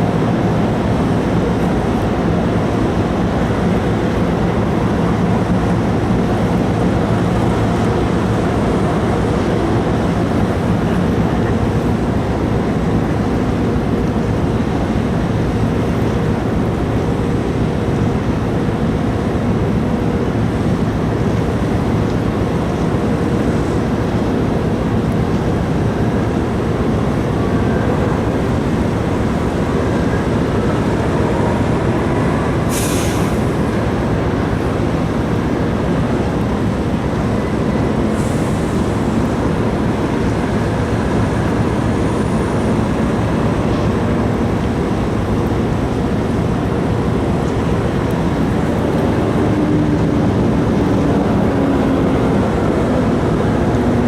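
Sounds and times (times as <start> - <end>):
ship engine rumble: 0.0 - 54.0.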